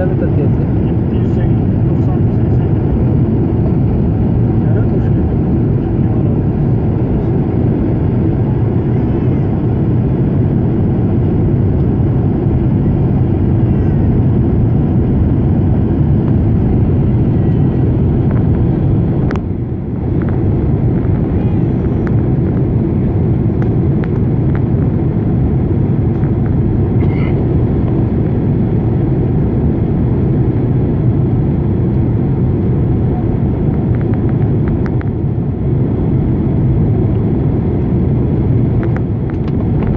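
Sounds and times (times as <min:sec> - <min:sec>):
airplane engines and airflow in cabin: 0:00.0 - 0:39.9.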